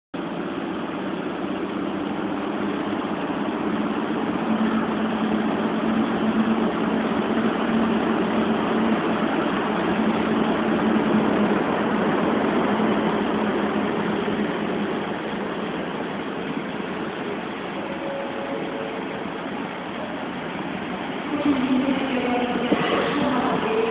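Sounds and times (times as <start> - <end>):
electric locomotive hum and rumble: 0.2 - 23.9.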